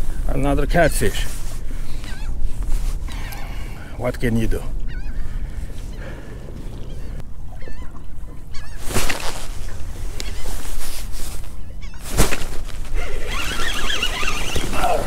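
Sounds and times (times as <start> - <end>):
wind rumbling on microphone: 0.0 - 15.0
wavering bird calls: 1.8 - 12.3, 12.9 - 15.0.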